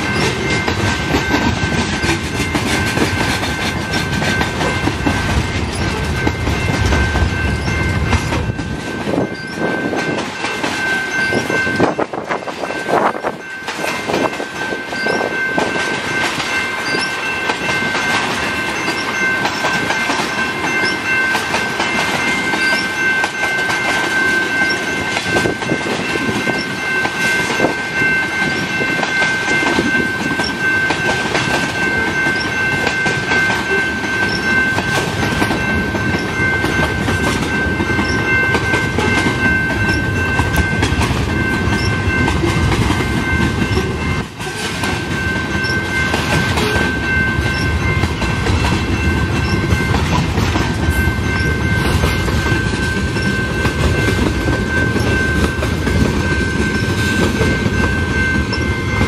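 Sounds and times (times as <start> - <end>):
crossing warning bell ringing: 0.0 - 59.0
freight train rumbling: 0.0 - 59.0
wheels clacking over rail joints: 0.0 - 59.0.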